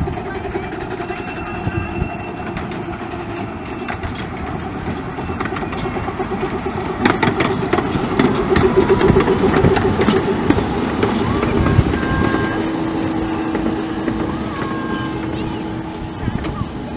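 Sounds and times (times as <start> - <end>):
steam locomotives working: 0.0 - 16.9
wheels clicking over rail joints: 0.0 - 16.9.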